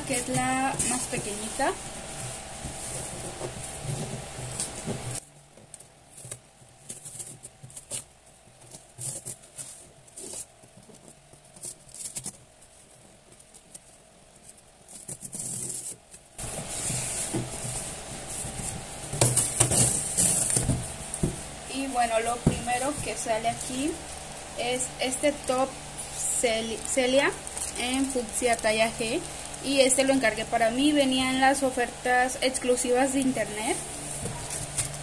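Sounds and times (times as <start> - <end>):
cardboard rustling: 0.0 - 30.1, 33.2 - 35.0.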